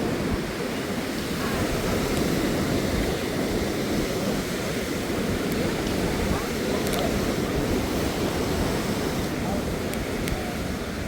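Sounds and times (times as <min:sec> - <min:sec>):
rushing heavy water: 0:00.0 - 0:11.0.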